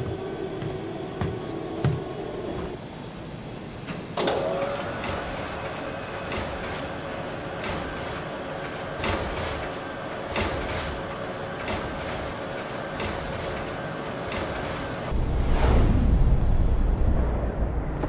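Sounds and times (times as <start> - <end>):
mechanical rolling hum: 0.0 - 18.0.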